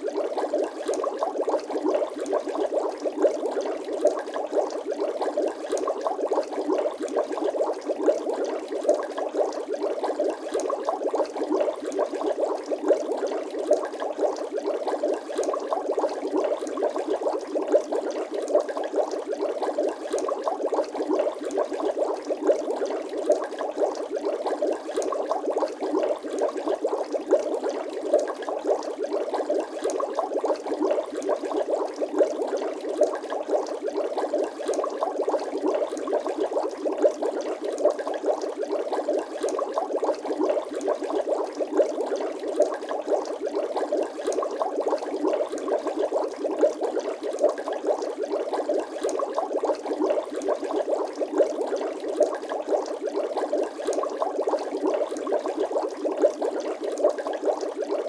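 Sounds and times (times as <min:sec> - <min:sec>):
water bubbling: 0:00.0 - 0:58.0.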